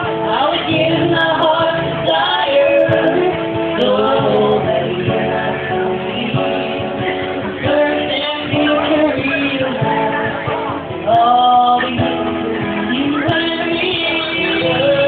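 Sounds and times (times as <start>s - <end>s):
duo singing country ballad: 0.0s - 15.0s
instrumental backing: 0.0s - 15.0s.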